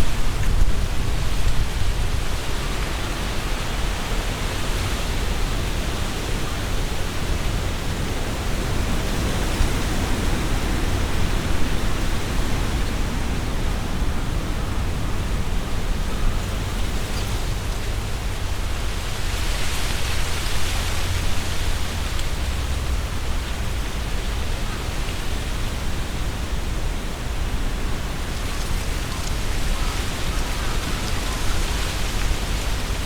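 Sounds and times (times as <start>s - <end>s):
low wind rumble on microphone: 0.0s - 33.0s
wind rustling leaves: 0.0s - 33.0s.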